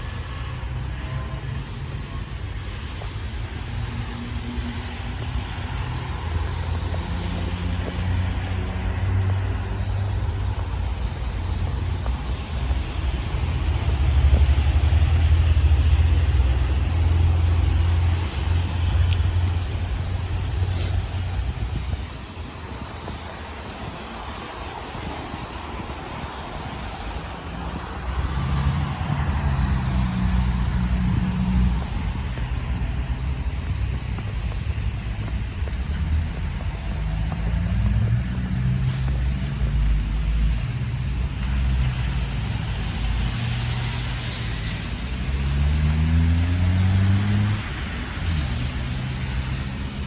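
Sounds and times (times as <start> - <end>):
wind buffeting microphone: 0.0 - 43.5
vehicle engine humming: 0.0 - 50.0.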